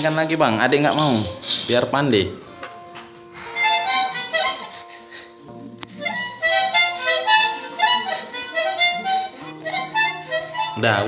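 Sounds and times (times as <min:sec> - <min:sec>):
harmonica chords: 0:00.0 - 0:11.0.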